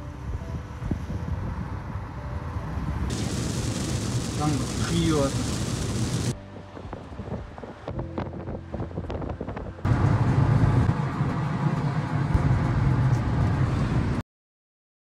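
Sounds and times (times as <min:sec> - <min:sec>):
car road and wind noise: 0:00.0 - 0:14.2.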